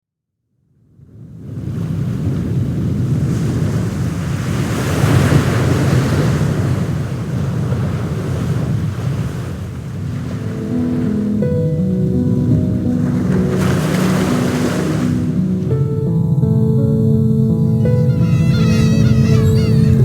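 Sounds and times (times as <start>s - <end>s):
wind: 0.5s - 20.0s
surf rushing: 1.6s - 16.1s, 17.6s - 20.0s.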